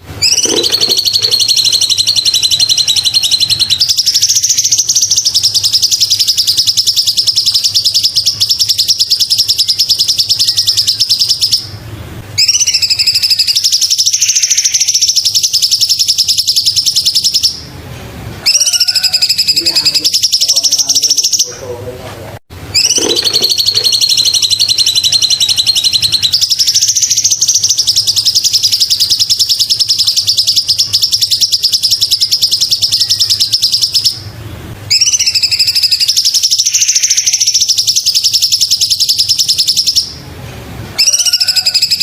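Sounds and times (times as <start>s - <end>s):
bird singing rapid high trills: 0.0s - 11.8s, 12.4s - 17.7s, 18.4s - 21.8s, 22.7s - 40.2s, 41.0s - 42.0s.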